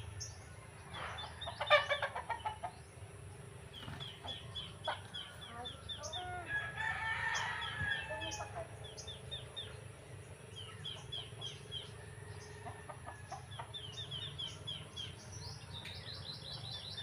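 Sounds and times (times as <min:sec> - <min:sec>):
chickens clucking: 0:00.2 - 0:17.0.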